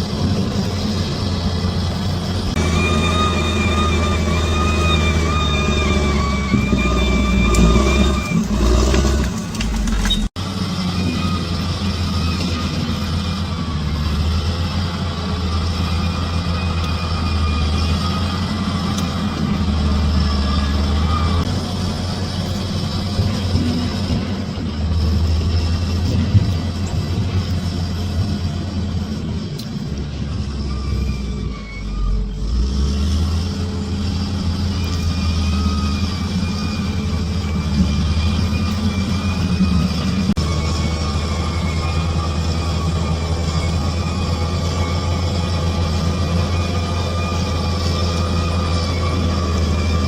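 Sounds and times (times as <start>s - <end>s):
bulldozer diesel engine droning: 0.0s - 50.0s.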